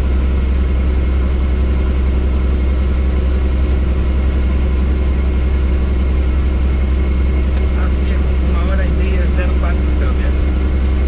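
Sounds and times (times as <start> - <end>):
helicopter rotor and engine drone: 0.0 - 11.0.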